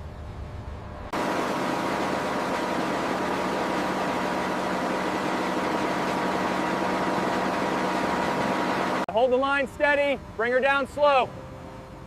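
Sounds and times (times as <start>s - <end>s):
low machinery hum: 0.0s - 10.5s.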